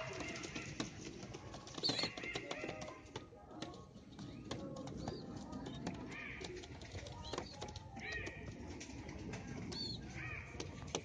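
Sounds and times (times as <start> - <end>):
pigeons peeping: 0.0 - 11.0.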